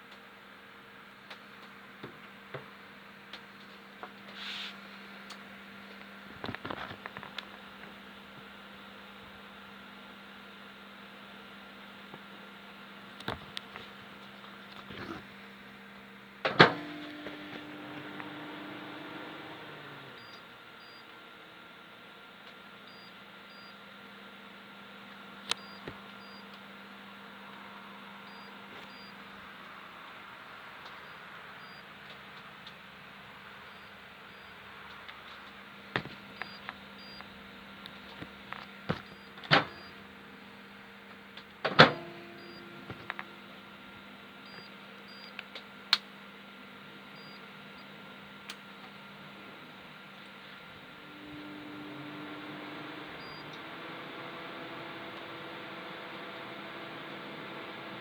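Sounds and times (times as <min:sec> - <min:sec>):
electrical hum from inverter: 0:00.0 - 0:58.0.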